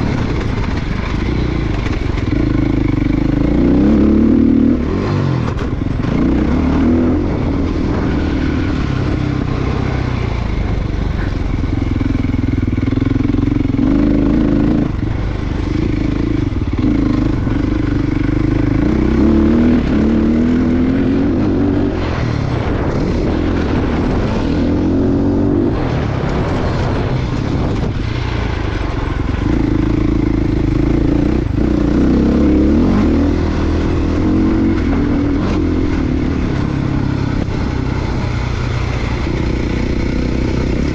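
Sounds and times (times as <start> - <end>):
dirt bike engine revving: 0.0 - 40.9
steady low rumble: 0.0 - 40.9.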